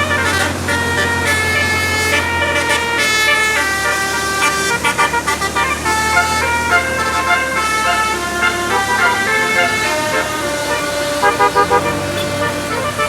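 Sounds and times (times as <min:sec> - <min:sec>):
musical air horn melody: 0:00.0 - 0:13.0.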